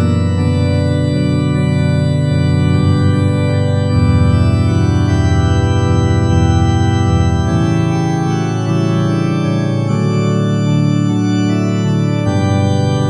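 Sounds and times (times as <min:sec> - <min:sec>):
organ playing slow chords: 0:00.0 - 0:13.0.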